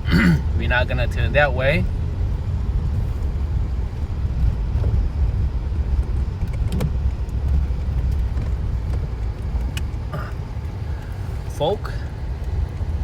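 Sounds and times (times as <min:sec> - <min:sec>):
car driving rumble inside cabin: 0:00.0 - 0:13.0.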